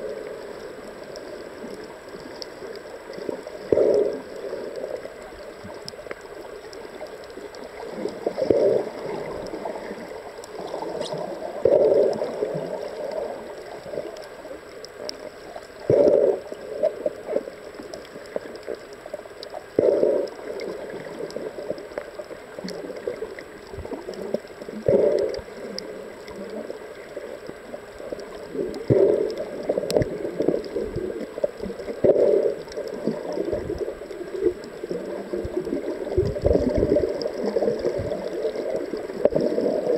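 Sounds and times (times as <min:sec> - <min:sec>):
muffled underwater noise: 0:00.0 - 0:39.9
water rushing and gurgling: 0:00.0 - 0:39.9.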